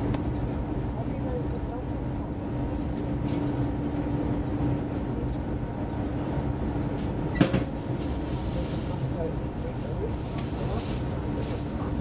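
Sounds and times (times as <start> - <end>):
constant hum: 0.0 - 12.0
train wheels rumbling on rails: 0.0 - 12.0.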